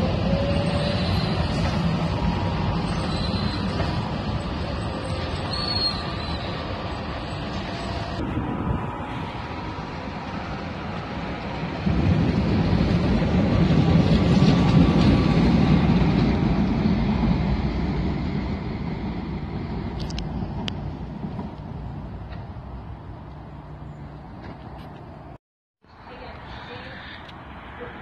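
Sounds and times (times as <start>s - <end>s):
electric train rumbling: 0.0s - 25.4s.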